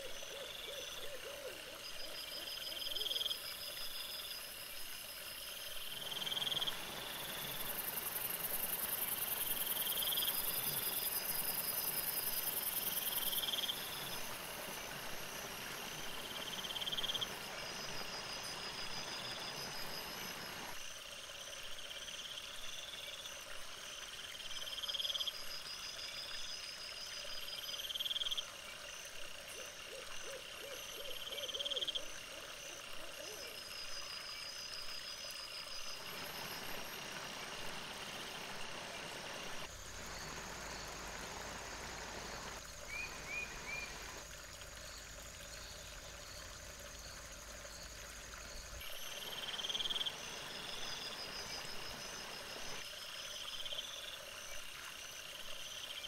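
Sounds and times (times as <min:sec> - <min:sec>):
night insects chirping: 0:00.0 - 0:56.0.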